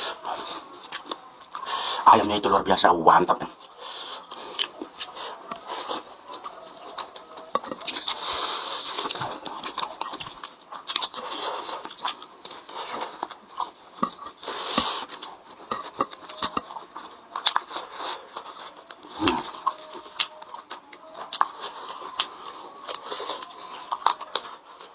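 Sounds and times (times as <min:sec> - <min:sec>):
person chewing with wet smacks: 0:00.0 - 0:02.0, 0:03.6 - 0:24.9.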